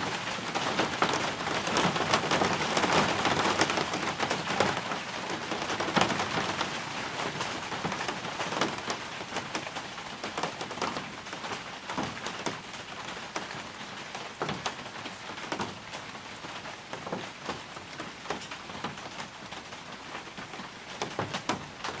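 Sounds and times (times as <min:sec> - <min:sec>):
rain pattering on a balcony: 0:00.0 - 0:22.0.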